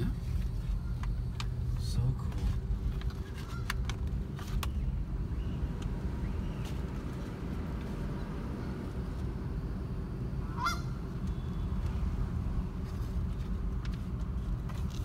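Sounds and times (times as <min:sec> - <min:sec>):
vehicle rumbling at low speed: 0:00.0 - 0:15.0.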